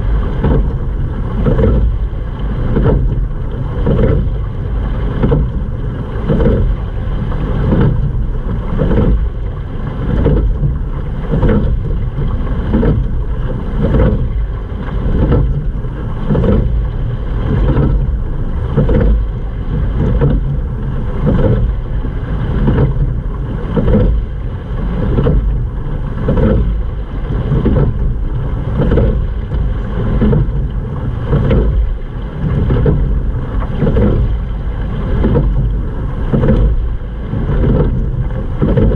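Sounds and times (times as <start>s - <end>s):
water rushing along boat hull: 0.0s - 38.9s
wind rumble on microphone: 0.0s - 38.9s.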